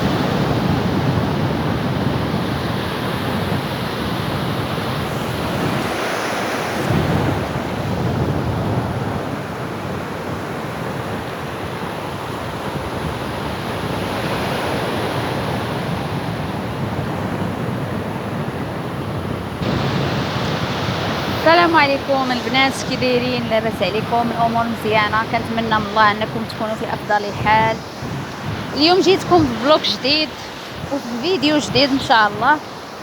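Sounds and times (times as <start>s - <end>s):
sea waves washing onto shore: 0.0s - 33.0s
wind buffeting microphone: 0.0s - 33.0s.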